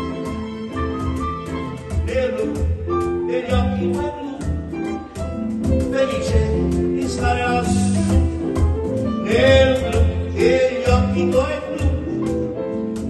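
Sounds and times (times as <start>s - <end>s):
pulsing bass beat: 0.0s - 13.0s
string ensemble playing: 0.0s - 13.0s.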